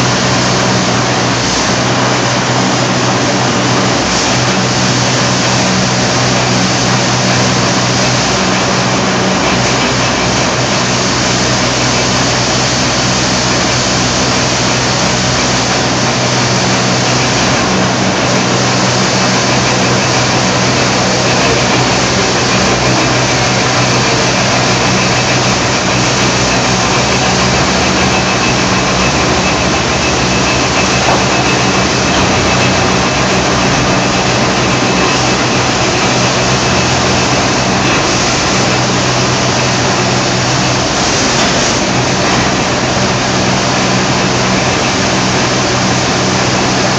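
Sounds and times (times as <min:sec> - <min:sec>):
loud machine drone: 0:00.0 - 0:46.9.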